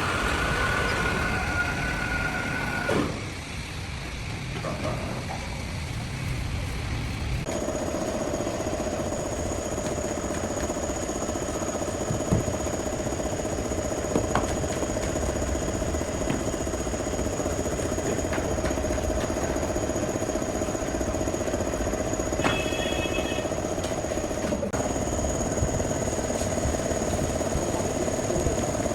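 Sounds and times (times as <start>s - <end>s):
constant whine: 0.0s - 28.9s
heavy machinery rumble: 0.0s - 28.9s.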